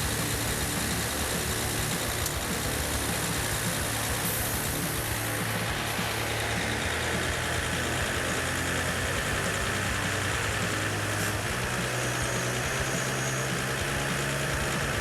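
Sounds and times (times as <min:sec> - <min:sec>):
truck engine under load: 0:00.0 - 0:15.0.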